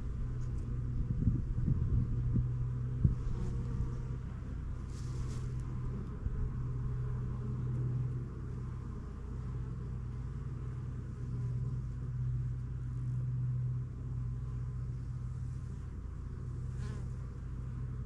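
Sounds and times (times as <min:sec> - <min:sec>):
honeybees buzzing: 0:01.5 - 0:18.0.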